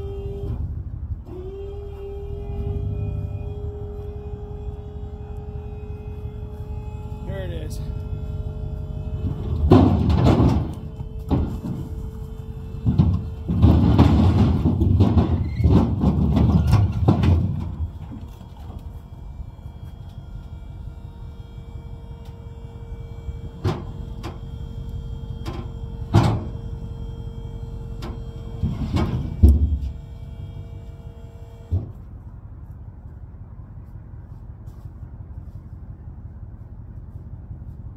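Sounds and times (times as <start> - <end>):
hydraulic pump whine: 0.0 - 32.3
logs tumbling off trailer: 0.4 - 32.5.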